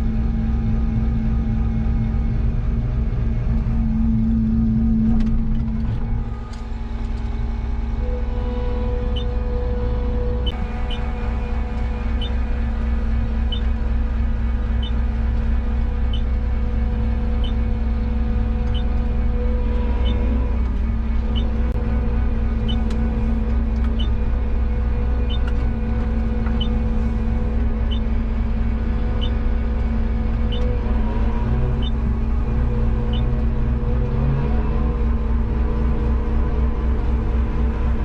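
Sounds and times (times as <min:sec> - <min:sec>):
combine harvester droning: 0:00.0 - 0:38.0.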